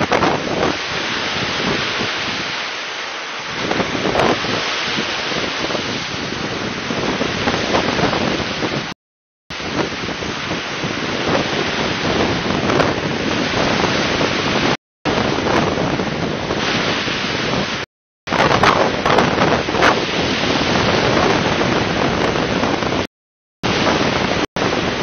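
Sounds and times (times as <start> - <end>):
wind buffeting microphone: 0.0 - 2.7, 3.4 - 25.0
surf washing onto pebble beach: 0.0 - 8.9, 9.5 - 23.1.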